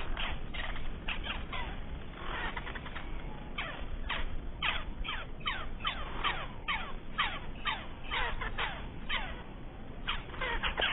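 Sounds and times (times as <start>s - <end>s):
lovebirds chirping: 0.0s - 10.9s.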